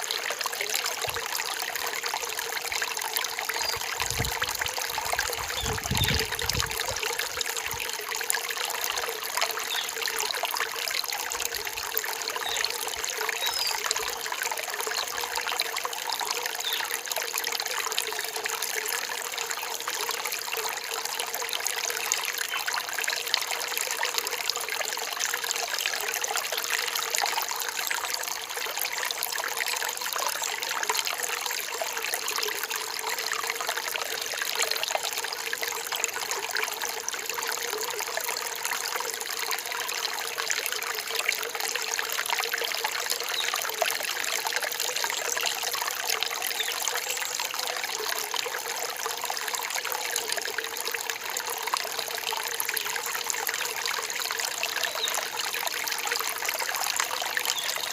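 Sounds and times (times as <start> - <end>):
stream trickling and splashing: 0.0 - 57.9.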